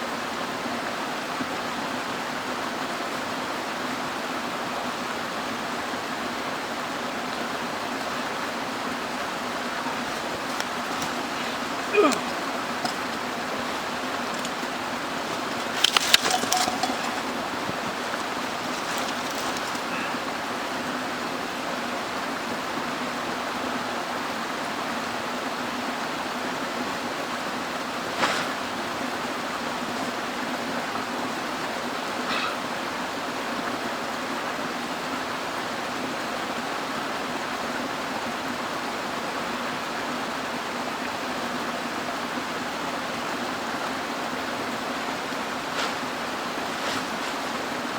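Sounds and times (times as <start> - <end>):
stream rushing: 0.0 - 47.9.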